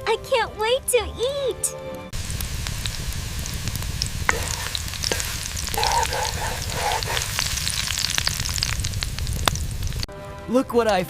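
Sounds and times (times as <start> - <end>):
food frying and sizzling: 0.2 - 11.0.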